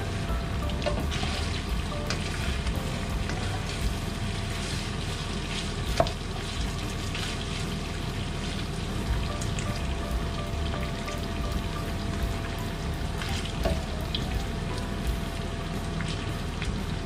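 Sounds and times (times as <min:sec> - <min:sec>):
meat sizzling in frying pan: 0:00.0 - 0:17.0.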